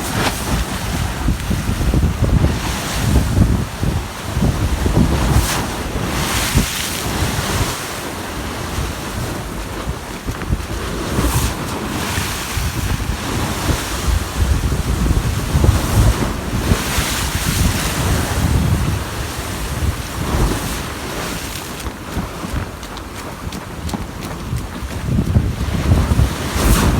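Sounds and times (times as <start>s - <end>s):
waves washing: 0.0s - 26.9s
wind buffeting microphone: 0.0s - 26.9s.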